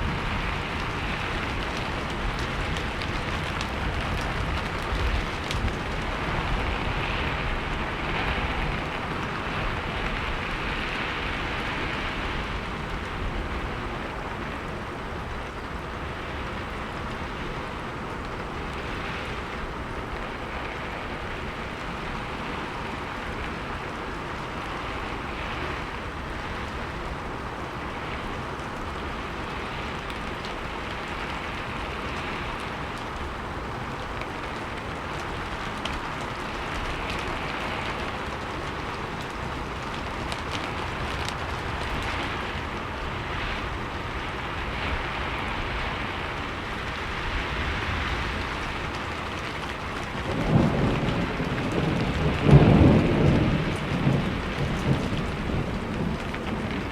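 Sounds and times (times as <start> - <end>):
faint raindrop ticks: 0.0 - 56.9
steady rainfall: 0.0 - 56.9.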